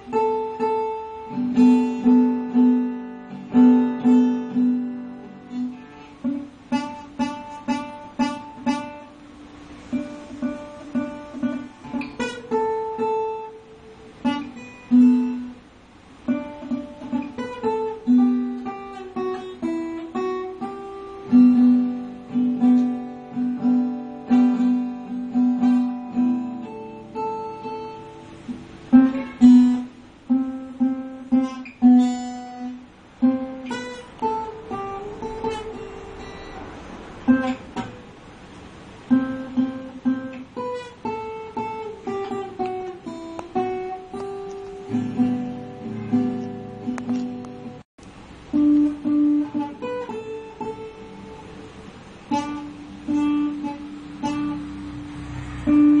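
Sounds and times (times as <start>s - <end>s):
solo guitar playing: 0.0s - 56.0s.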